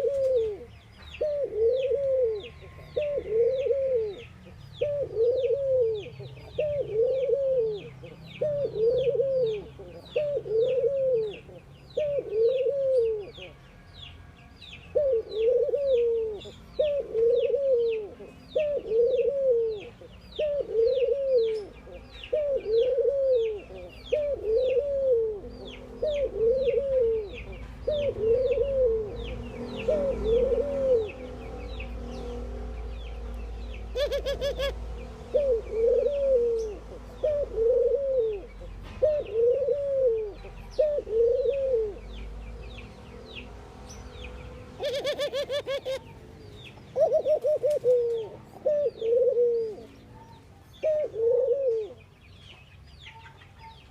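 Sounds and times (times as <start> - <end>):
doves cooing: 0.0 - 13.6, 14.9 - 42.4, 44.6 - 52.1
small birds chirping: 0.0 - 53.9.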